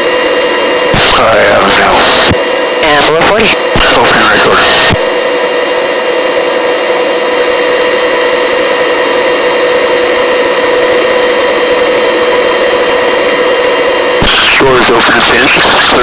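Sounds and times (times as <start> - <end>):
helicopter engine and rotor: 0.0 - 16.0.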